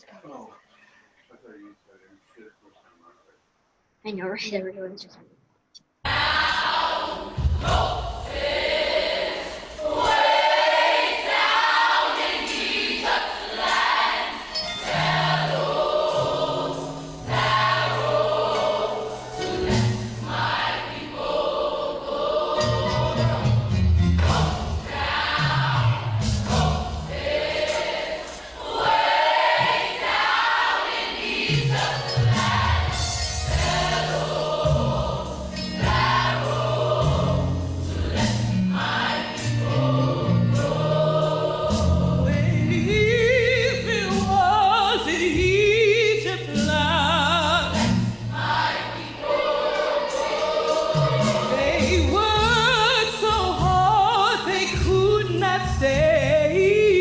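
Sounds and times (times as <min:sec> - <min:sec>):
choir singing gospel: 0:06.1 - 0:57.0.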